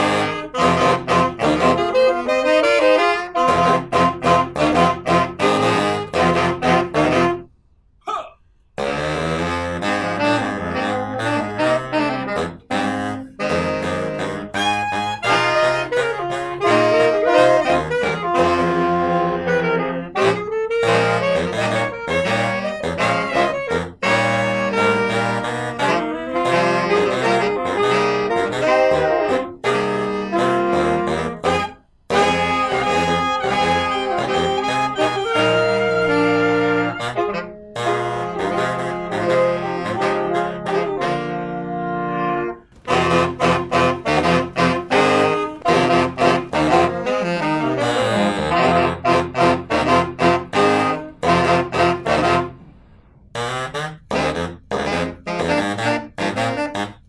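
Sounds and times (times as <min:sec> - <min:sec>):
saxophone ensemble playing: 0:00.0 - 0:07.5, 0:08.8 - 0:57.0.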